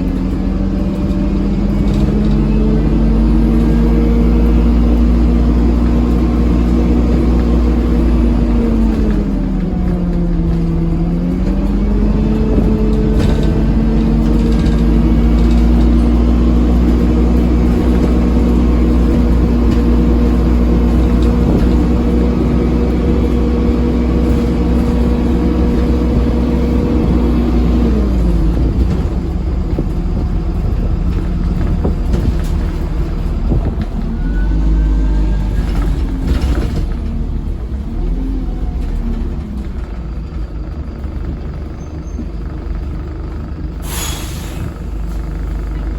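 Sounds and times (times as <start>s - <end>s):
bus engine whining: 0.0s - 45.9s.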